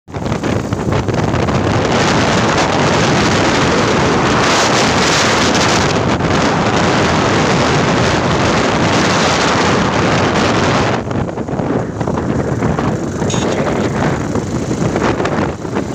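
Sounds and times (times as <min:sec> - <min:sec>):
wind buffeting microphone: 0:00.1 - 0:15.9.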